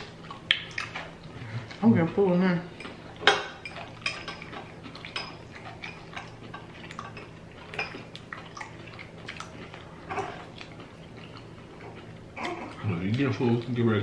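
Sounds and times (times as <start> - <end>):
crunching and chewing food: 0.0 - 14.0.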